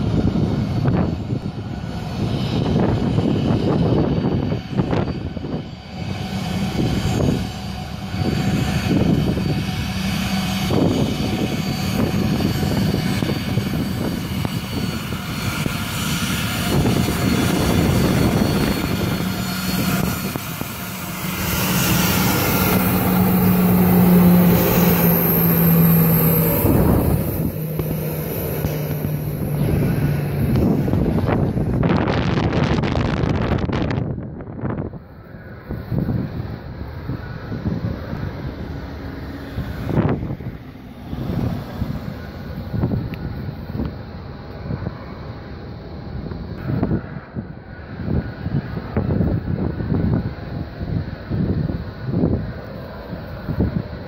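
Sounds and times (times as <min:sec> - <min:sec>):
jet engines taxiing: 0:00.0 - 0:54.0.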